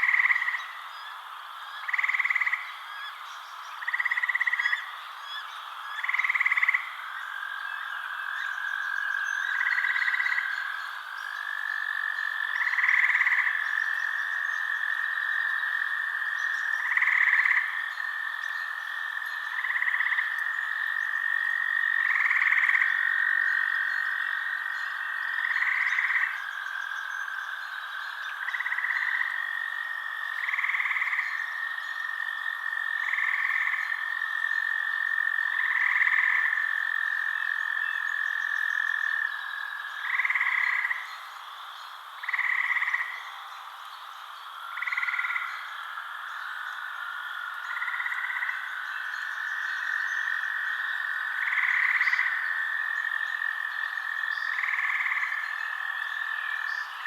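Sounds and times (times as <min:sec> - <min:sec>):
frogs calling: 0:00.0 - 0:57.0.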